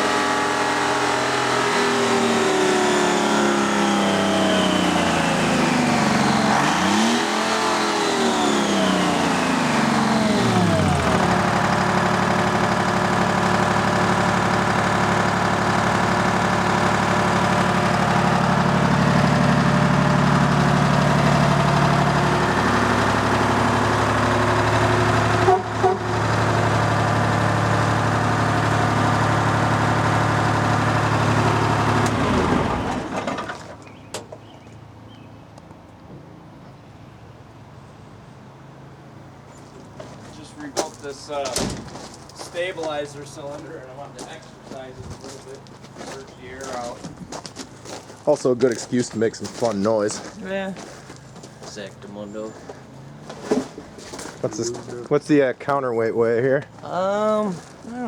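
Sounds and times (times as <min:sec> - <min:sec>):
diesel engine revving and idling: 0:00.0 - 0:33.8, 0:42.2 - 0:58.0.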